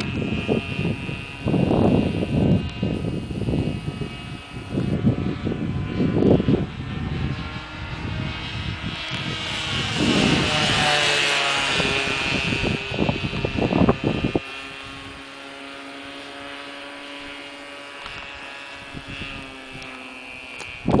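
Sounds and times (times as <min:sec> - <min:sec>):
model airplane motor buzzing: 0:00.0 - 0:21.0.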